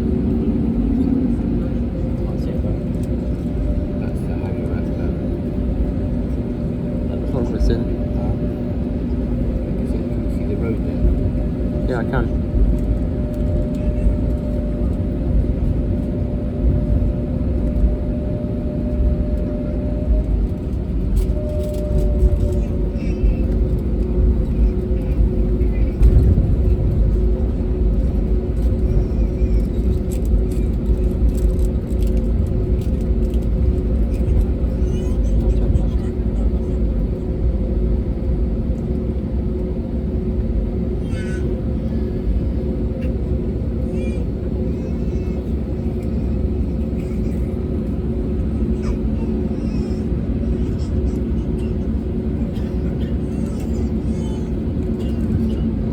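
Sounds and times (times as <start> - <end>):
airplane cabin rumble: 0.0 - 55.9
constant hum: 0.0 - 55.9.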